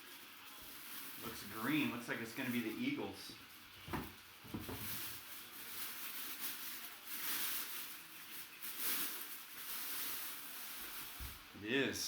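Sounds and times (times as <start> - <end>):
packaging rustling and crinkling: 0.1 - 11.5.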